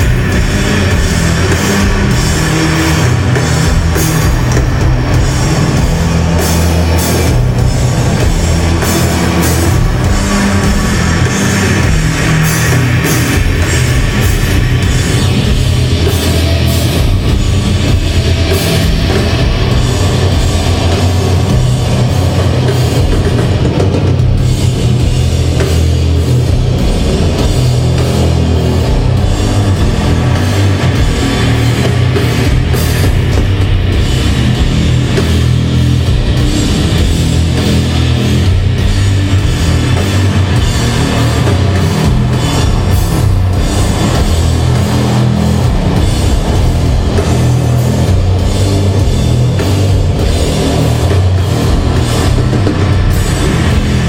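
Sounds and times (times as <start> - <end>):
bass guitar low notes: 0.0 - 54.0
distorted electric guitars: 0.0 - 54.0
drum kit with cymbal hits: 0.0 - 54.0.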